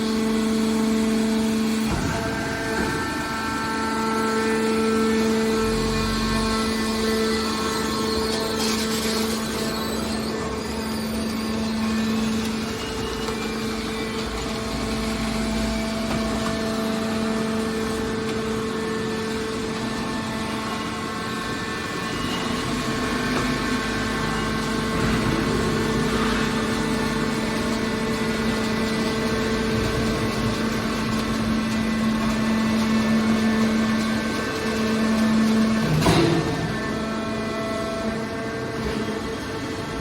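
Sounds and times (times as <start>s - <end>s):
scrap baler machine hum: 0.0s - 40.0s.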